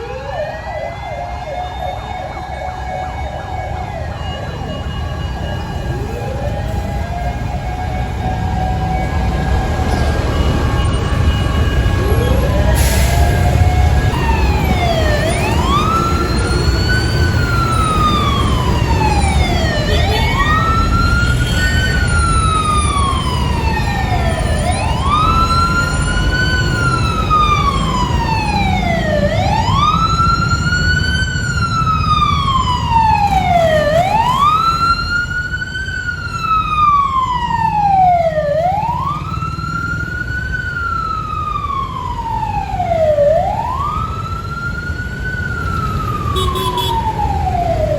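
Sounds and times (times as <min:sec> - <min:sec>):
engine and road rumble: 0:00.0 - 0:47.9
fire truck siren wailing: 0:00.0 - 0:47.9.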